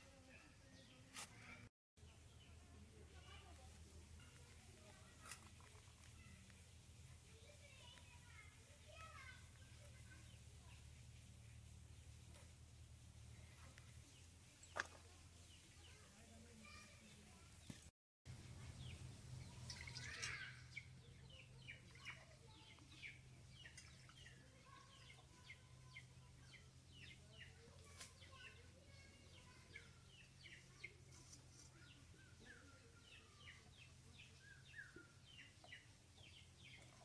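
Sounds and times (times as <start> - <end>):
small birds chirping: 0.2 - 37.0.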